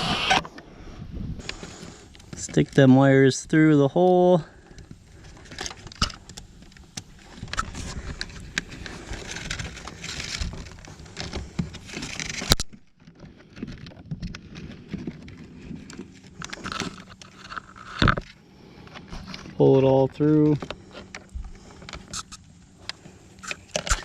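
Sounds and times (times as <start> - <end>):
wires rustling and scraping: 0.0 - 24.0.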